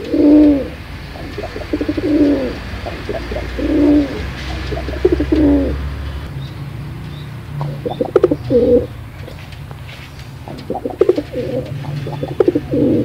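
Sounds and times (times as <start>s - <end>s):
pigeon cooing: 0.0s - 6.3s, 7.6s - 9.4s, 10.5s - 13.0s.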